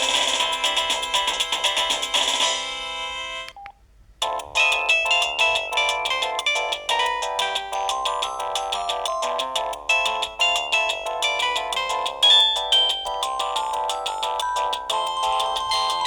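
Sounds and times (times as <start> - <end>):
mobile phone polyphonic melody: 0.0 - 3.6, 4.2 - 16.0.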